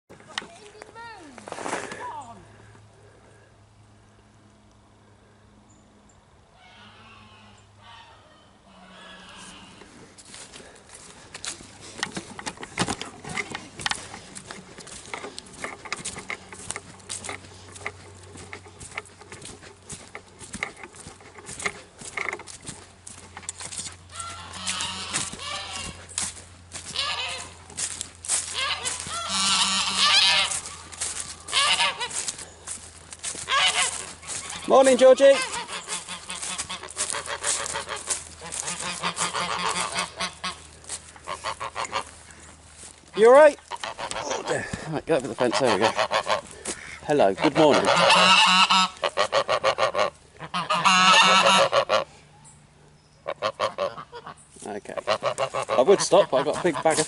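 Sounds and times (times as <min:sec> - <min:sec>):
geese honking: 0:06.5 - 0:52.5, 0:53.2 - 0:57.0.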